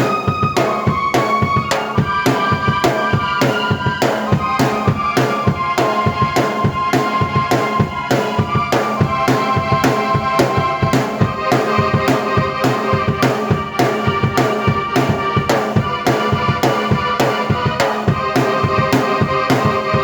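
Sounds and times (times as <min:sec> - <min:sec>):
drum kit beat: 0:00.0 - 0:20.0
keyboard chords and melody: 0:00.0 - 0:20.0.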